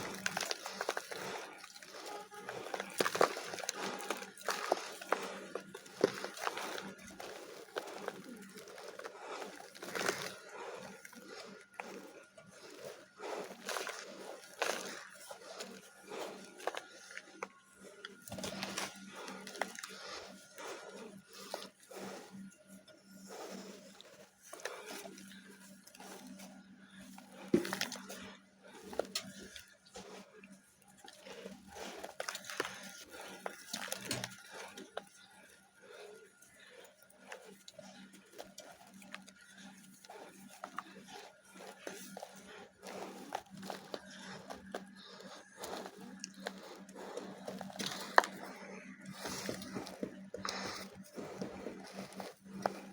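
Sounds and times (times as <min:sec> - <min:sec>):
dry clay crumbling: 0:00.0 - 0:52.9
faint steady hum: 0:00.0 - 0:52.9.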